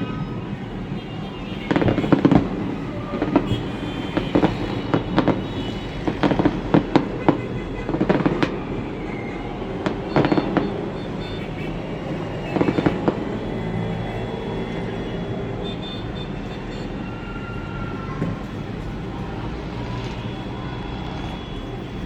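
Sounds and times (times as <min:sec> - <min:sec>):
fireworks bangs: 0:00.3 - 0:22.0.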